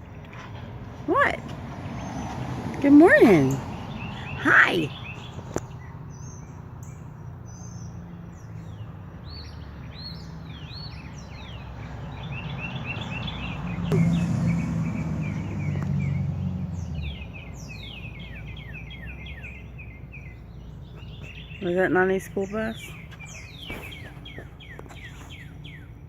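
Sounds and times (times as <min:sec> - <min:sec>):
passing vehicle engine rumble: 0:00.0 - 0:26.0
small birds chirping: 0:00.0 - 0:26.0.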